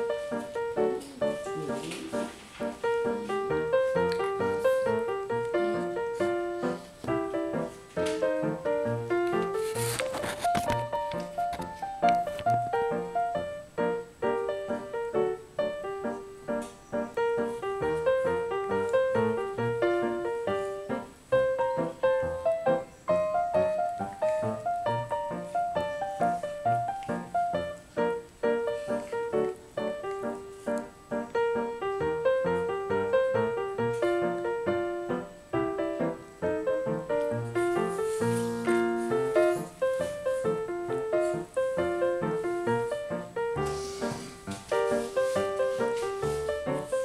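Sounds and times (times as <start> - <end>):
gentle piano melody: 0.0 - 47.0.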